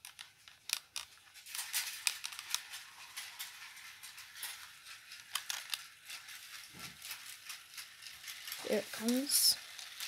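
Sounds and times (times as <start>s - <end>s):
plastic toy pieces clicking: 0.0s - 10.0s.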